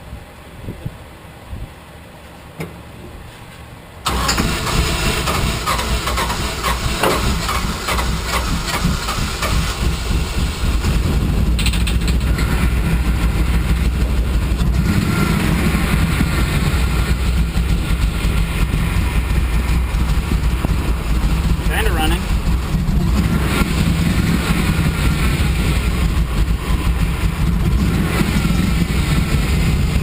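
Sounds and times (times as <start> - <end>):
car engine starting and running roughly: 4.0 - 30.0
mechanical engine noise: 4.0 - 30.0.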